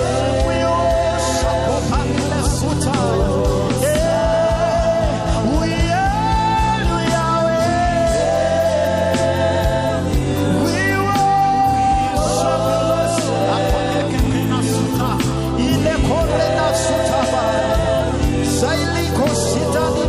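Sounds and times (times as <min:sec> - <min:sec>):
steady drum beat: 0:00.0 - 0:20.0
sustained keyboard chords: 0:00.0 - 0:20.0.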